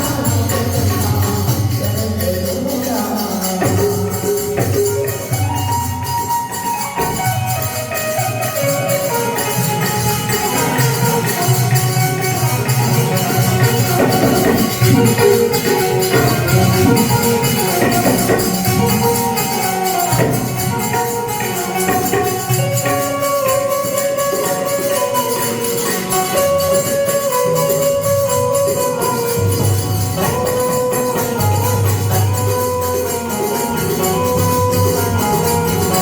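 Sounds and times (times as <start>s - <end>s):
held melody line: 0.0s - 36.0s
music with jingling beat: 0.0s - 36.0s.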